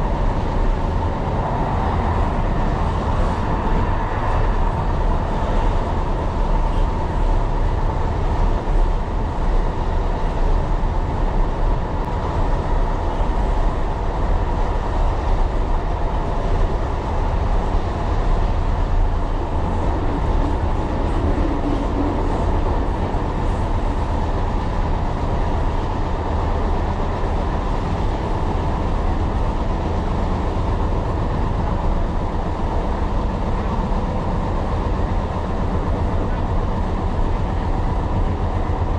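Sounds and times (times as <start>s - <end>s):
constant whine: 0.0s - 38.9s
train wheels rumbling on rail: 0.0s - 38.9s.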